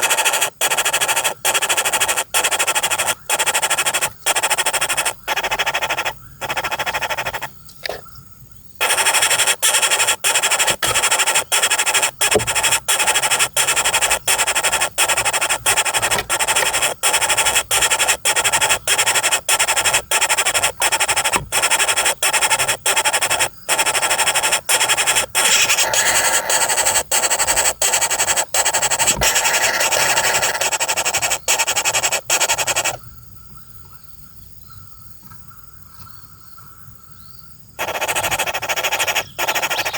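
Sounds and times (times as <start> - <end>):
woodpecker nestlings begging: 0.0 - 33.1, 37.8 - 39.9.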